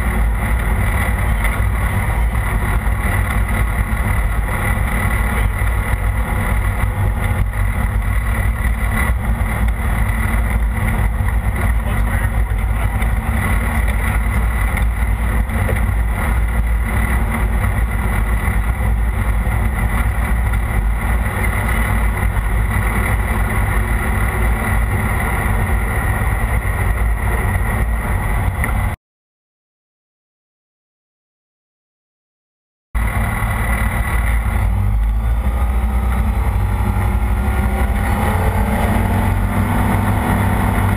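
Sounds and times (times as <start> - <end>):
propeller plane engine running: 0.0 - 29.0, 33.0 - 40.9.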